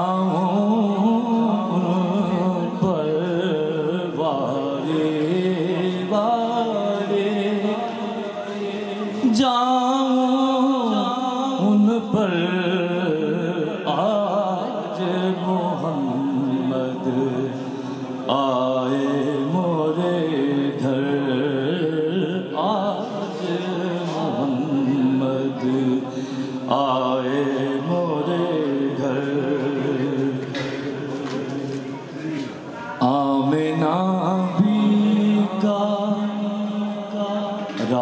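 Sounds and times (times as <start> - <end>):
man singing devotional song: 0.0 - 38.0.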